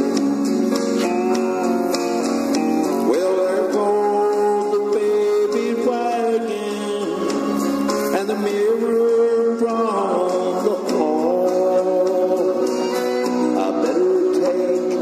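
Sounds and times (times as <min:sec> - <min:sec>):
country song with man singing: 0:00.0 - 0:15.0.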